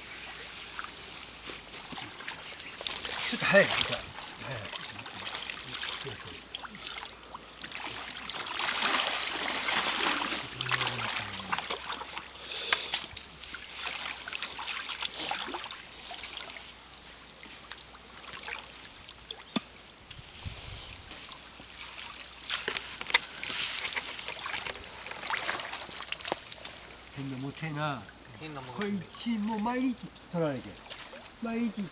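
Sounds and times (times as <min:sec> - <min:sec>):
water splashing and sloshing: 0:00.0 - 0:31.9.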